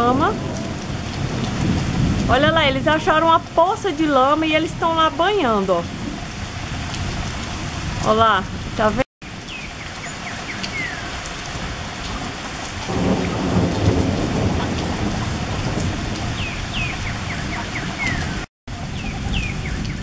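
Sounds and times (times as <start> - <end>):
thunder rumble: 0.0 - 9.5, 11.4 - 20.0
steady rain: 0.0 - 20.0.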